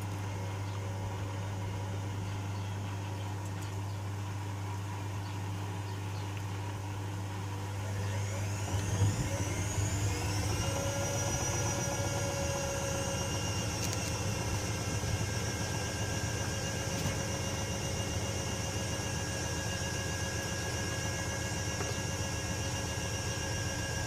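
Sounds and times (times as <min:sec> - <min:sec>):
washing machine drum motor whine: 0:00.0 - 0:24.0.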